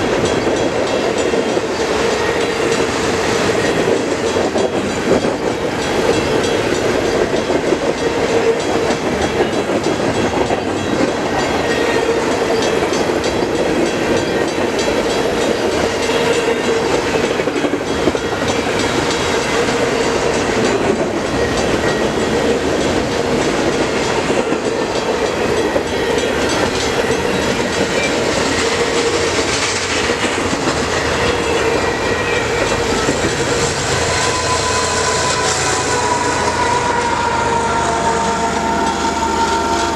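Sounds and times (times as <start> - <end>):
steel wheels on rails: 0.0 - 39.9.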